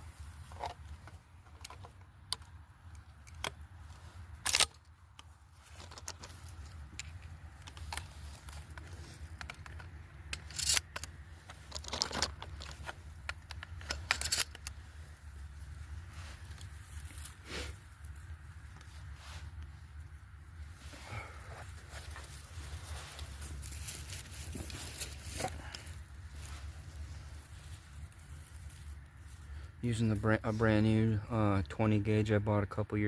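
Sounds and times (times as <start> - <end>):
steady low rumble: 0.0 - 33.0
gear handling clicks and rustles: 0.1 - 30.5.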